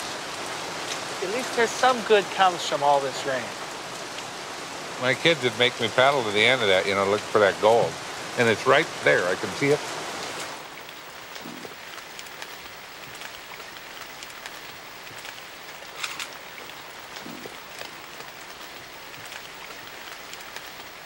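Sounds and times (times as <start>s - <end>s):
light rain on lake water: 0.0s - 21.0s.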